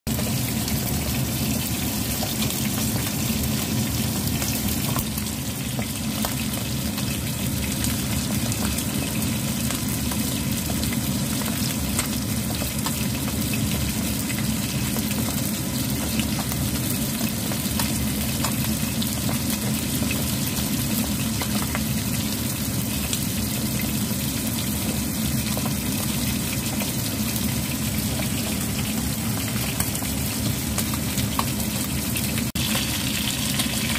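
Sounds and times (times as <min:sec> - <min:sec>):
fish sizzling in oil: 0:00.1 - 0:33.9.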